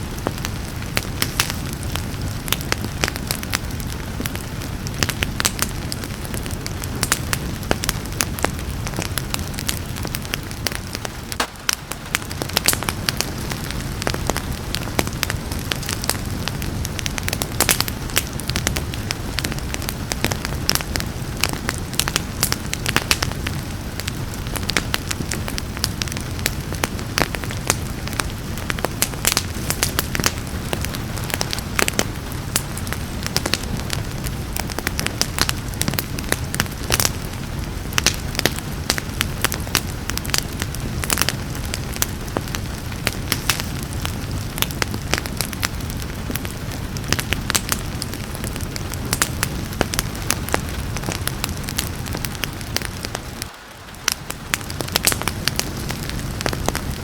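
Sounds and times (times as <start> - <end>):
fire crackling and popping: 0.0 - 57.0
rain falling: 0.0 - 57.0.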